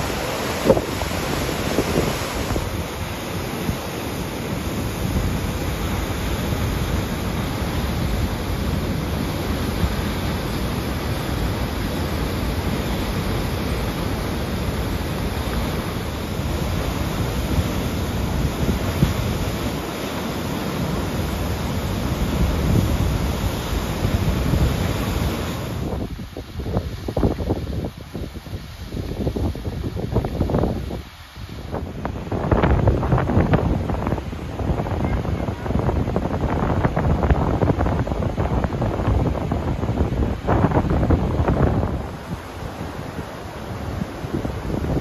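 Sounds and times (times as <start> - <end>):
waterfall roaring: 0.0 - 45.0
wind buffeting microphone: 0.0 - 45.0.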